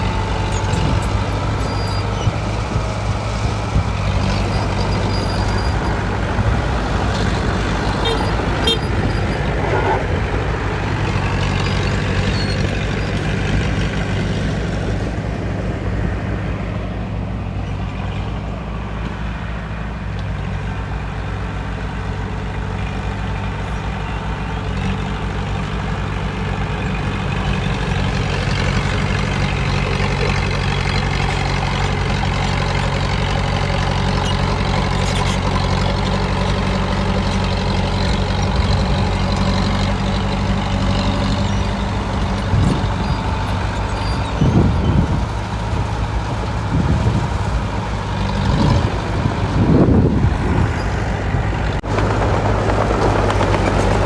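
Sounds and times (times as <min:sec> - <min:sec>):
heavy diesel machinery droning: 0:00.0 - 0:54.0.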